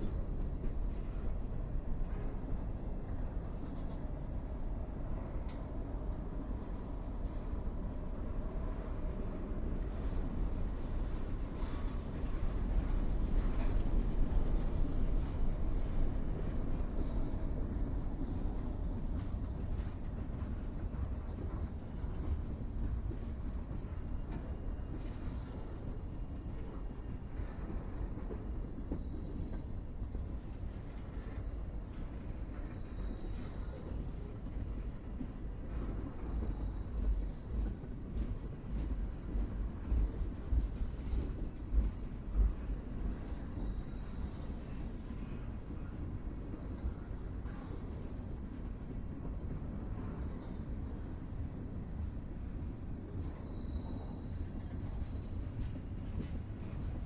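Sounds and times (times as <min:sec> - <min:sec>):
train cars rumbling on rails: 0:00.0 - 0:57.0.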